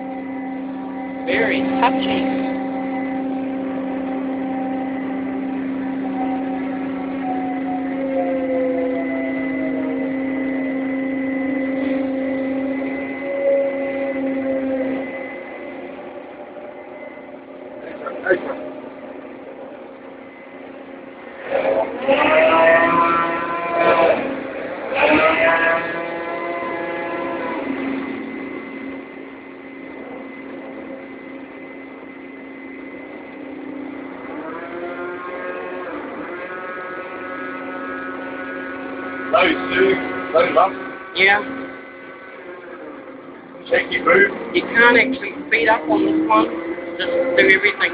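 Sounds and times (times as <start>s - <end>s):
crane machinery humming and whining: 0.0s - 47.9s.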